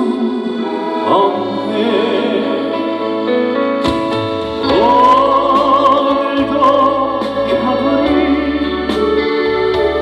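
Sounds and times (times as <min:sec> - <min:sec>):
man singing: 0:00.0 - 0:03.1, 0:04.6 - 0:10.0
keyboard-led band accompaniment: 0:00.0 - 0:10.0.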